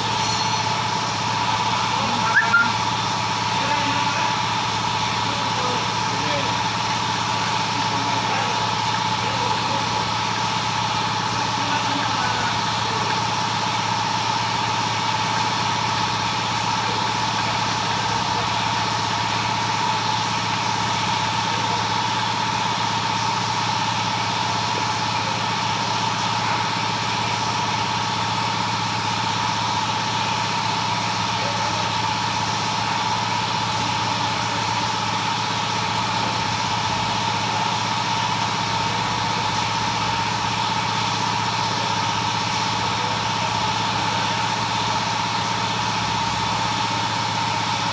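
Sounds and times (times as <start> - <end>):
large engine idling: 0.0 - 47.9.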